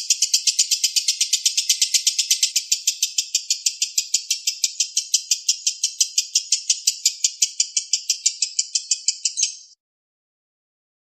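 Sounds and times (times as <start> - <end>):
lovebird shrill chirps: 0.0 - 9.8.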